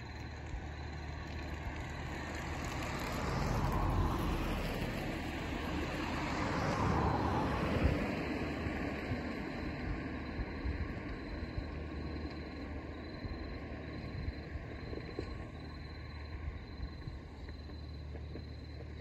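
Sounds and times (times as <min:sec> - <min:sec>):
road traffic passing: 0:00.1 - 0:19.0.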